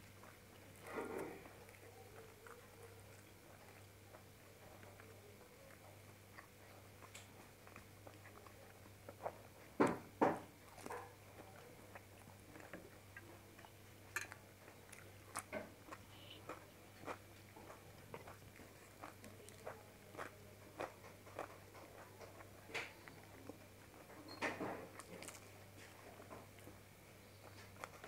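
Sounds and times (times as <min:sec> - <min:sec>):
chewing and mouth sounds: 0:00.0 - 0:28.0.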